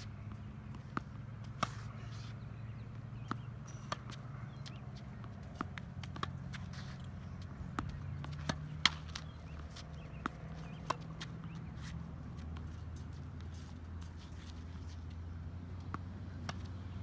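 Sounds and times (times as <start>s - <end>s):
tennis racket striking ball: 0.0s - 15.0s, 15.8s - 17.0s
tennis ball bouncing on court: 0.0s - 17.0s.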